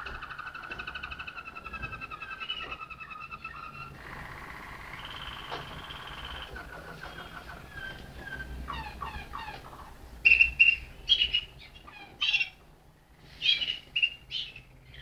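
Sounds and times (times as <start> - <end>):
canary singing: 0.0 - 12.6, 13.4 - 15.0.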